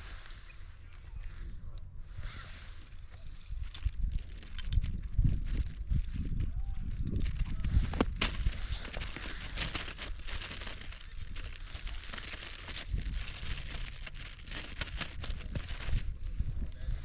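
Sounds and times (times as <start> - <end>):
crinkling and rustling: 0.0 - 1.8, 2.5 - 17.0.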